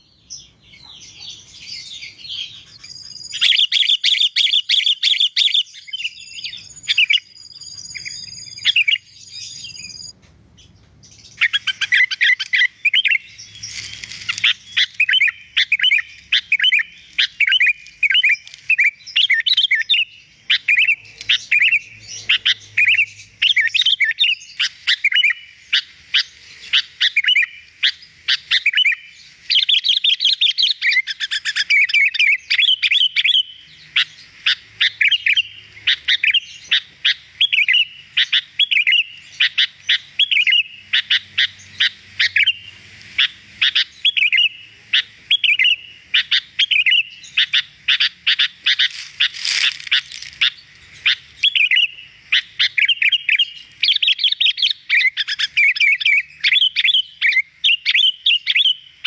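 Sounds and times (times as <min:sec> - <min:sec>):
bird singing chirps and whistles: 0:00.0 - 0:59.0.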